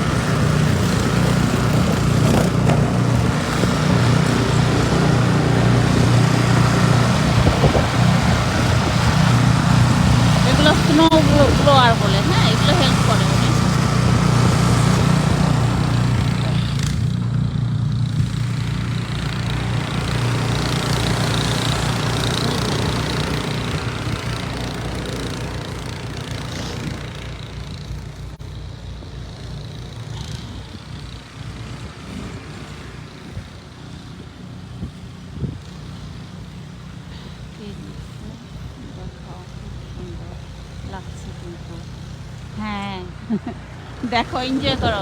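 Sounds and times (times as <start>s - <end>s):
snow blower engine running: 0.0s - 45.0s.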